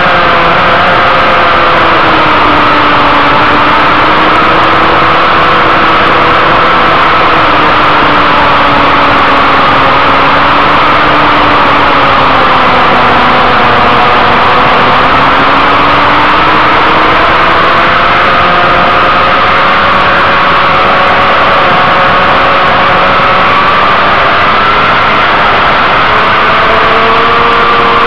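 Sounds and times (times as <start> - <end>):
motorcycle engine at high revs: 0.0 - 28.0
wind rush on microphone: 0.0 - 28.0.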